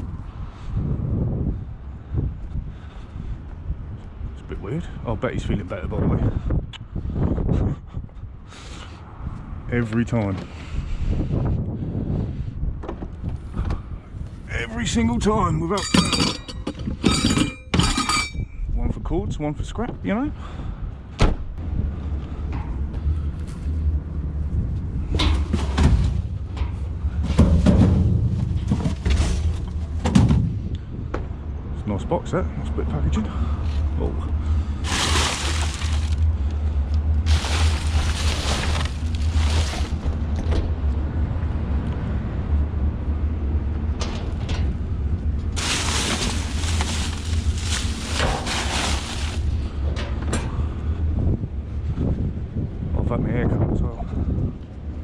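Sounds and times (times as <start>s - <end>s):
wind rumbling on microphone: 0.0s - 17.6s, 18.2s - 55.0s.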